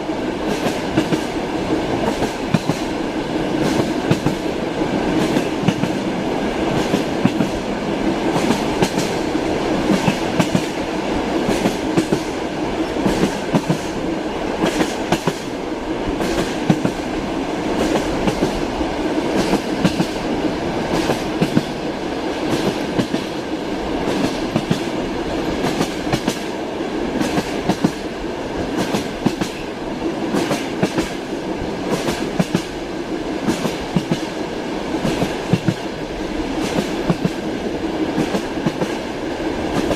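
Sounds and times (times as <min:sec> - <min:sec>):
train carriage rumbling: 0:00.0 - 0:39.9.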